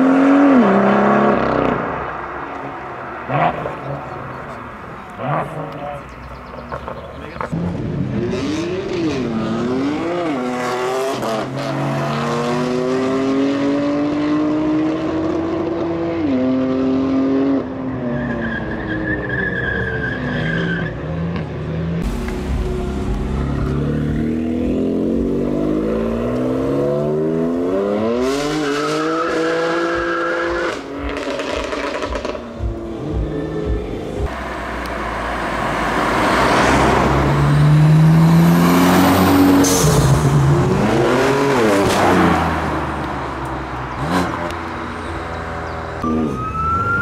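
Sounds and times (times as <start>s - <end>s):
car engines revving through gears: 0.0s - 47.0s.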